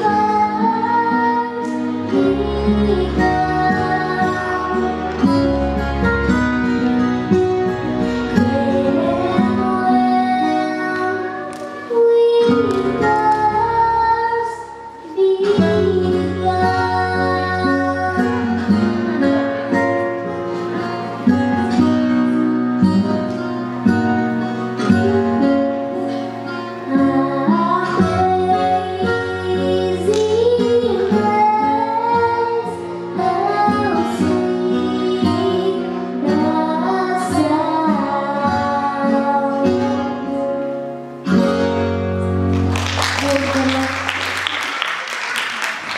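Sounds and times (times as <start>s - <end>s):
woman singing with accompaniment: 0.0s - 7.4s, 8.1s - 20.2s, 20.8s - 40.7s.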